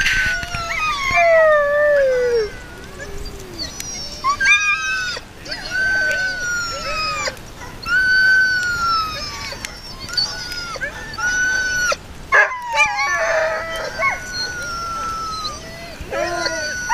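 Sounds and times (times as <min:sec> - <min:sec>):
sled dogs howling: 0:00.0 - 0:16.9.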